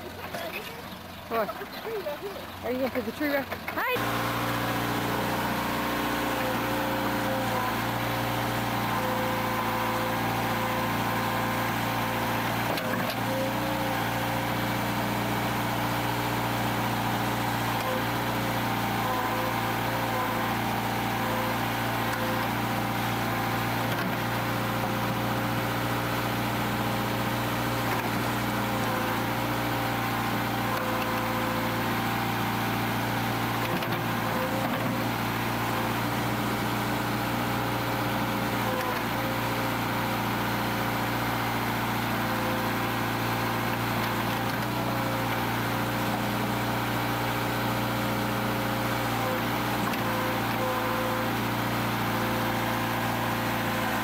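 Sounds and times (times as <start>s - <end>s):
excavator engine running: 0.0s - 54.0s.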